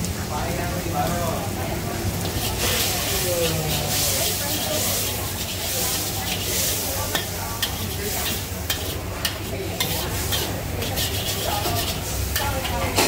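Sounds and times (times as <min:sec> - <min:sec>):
noodles sizzling in a wok: 0:00.0 - 0:13.0
metal spatula scraping a wok: 0:02.1 - 0:13.0.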